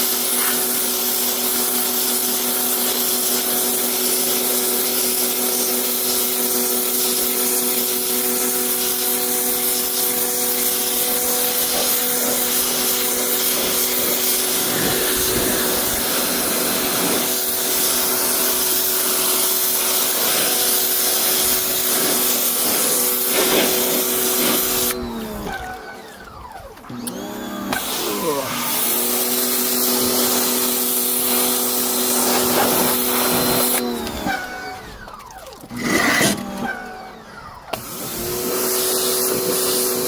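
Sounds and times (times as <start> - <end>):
water jet hissing on fabric: 0.0 - 25.0, 27.7 - 33.8, 38.2 - 40.0
pressure washer motor hum: 0.0 - 40.0.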